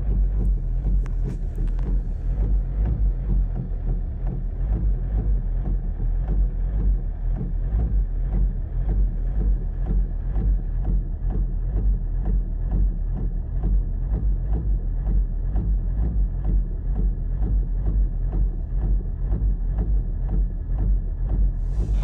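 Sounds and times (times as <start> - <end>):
diesel engine knocking: 0.0 - 22.0.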